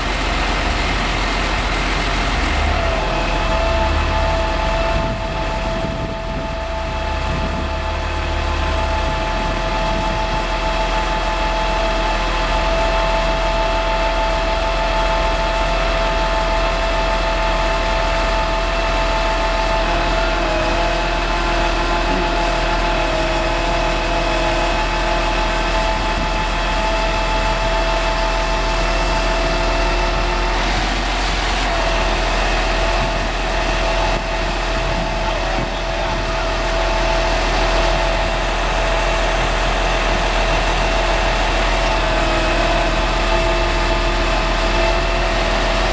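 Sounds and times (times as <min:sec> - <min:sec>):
truck engine rumble with whine: 0:00.0 - 0:45.9.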